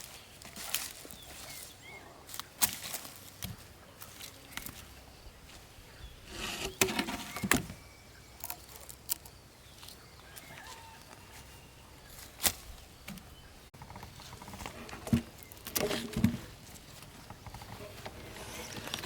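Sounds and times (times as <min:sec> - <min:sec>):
rustle: 0:00.0 - 0:19.0.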